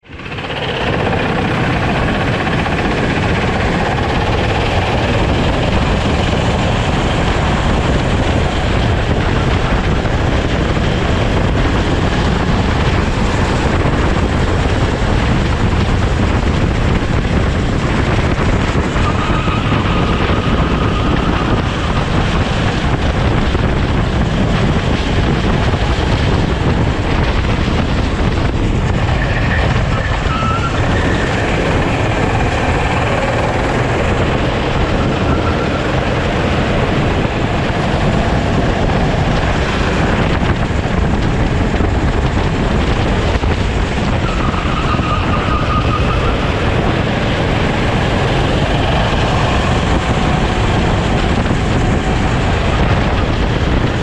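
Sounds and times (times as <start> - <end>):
kart engine running: 0.0 - 54.0.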